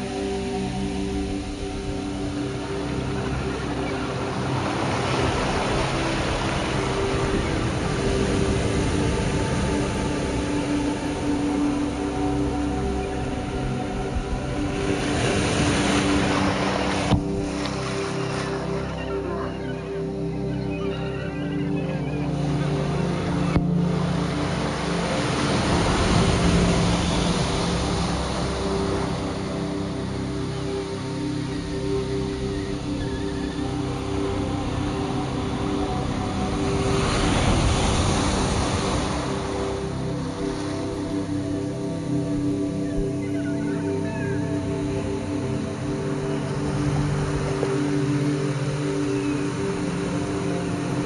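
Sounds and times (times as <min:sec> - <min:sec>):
sea surf washing on beach: 0:00.0 - 0:19.8, 0:22.3 - 0:51.0
soft music with held notes: 0:00.0 - 0:51.0.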